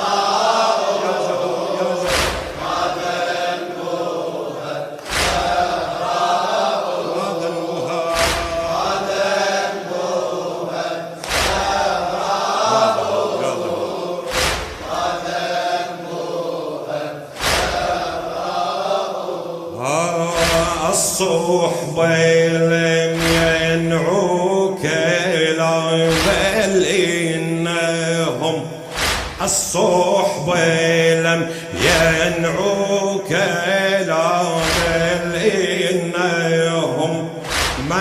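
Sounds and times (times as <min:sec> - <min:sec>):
men chanting in unison: 0:00.0 - 0:38.0.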